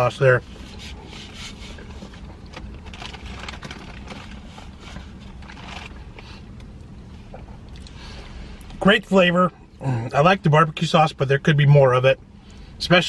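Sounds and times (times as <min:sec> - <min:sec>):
low car cabin rumble: 0:00.0 - 0:13.0.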